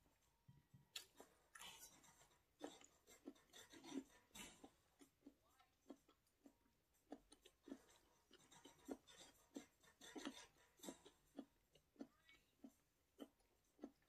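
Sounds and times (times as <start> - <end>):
wet chewing mouth clicks: 2.6 - 14.0.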